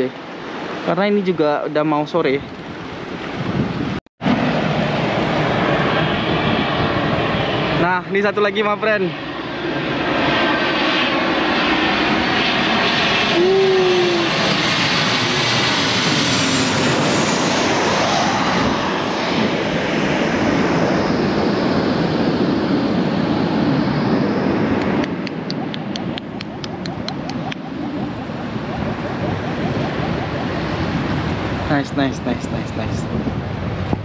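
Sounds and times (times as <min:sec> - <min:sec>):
airliner engines passing overhead: 0:00.0 - 0:34.0.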